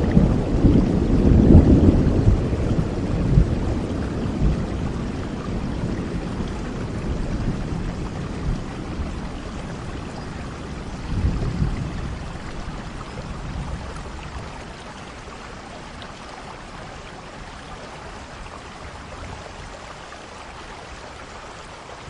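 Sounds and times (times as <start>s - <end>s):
low rumble of thunder: 0.0s - 19.9s
rain falling: 0.0s - 22.0s.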